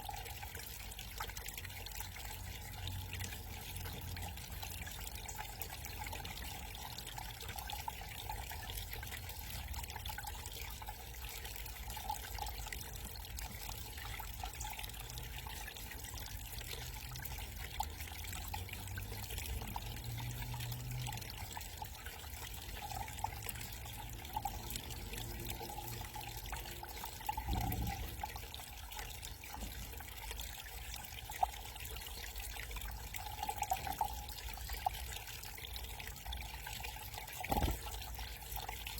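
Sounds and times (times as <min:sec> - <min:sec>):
small waterfall trickling and splashing: 0:00.0 - 0:38.9.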